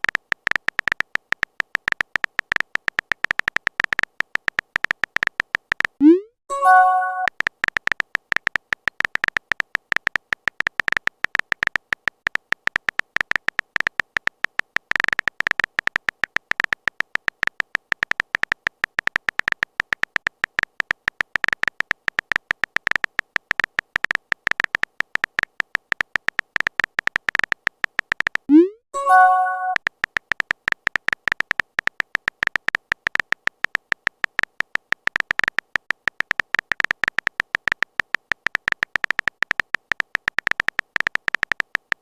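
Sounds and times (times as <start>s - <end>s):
phone keyboard typing clicks: 0.0s - 42.0s.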